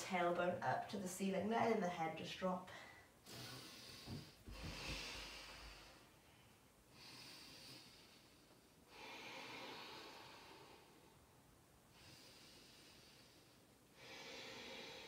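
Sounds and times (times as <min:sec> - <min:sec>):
woman breathing slowly: 0:02.7 - 0:15.0.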